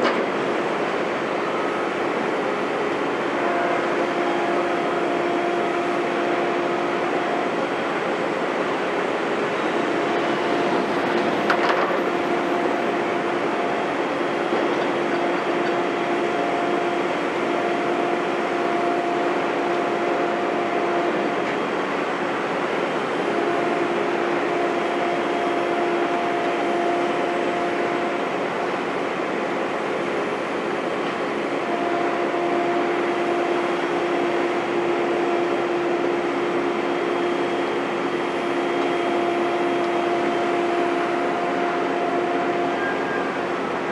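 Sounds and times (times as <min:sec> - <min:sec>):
heavy construction machinery humming: 0:00.0 - 0:43.9.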